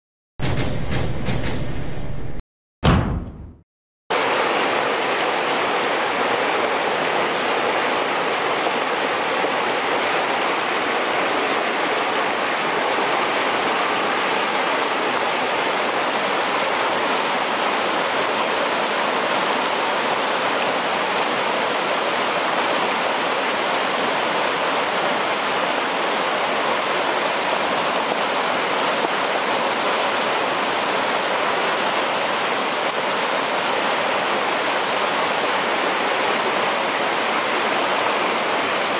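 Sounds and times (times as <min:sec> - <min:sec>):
water rushing over rocks: 0:04.1 - 0:38.9.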